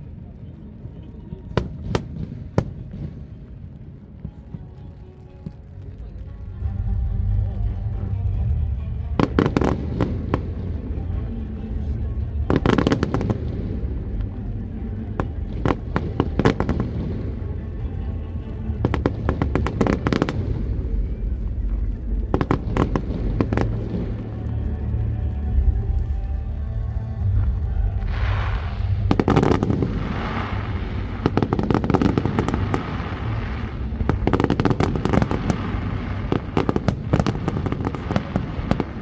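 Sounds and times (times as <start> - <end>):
fireworks bangs: 1.2 - 24.6, 25.5 - 39.0.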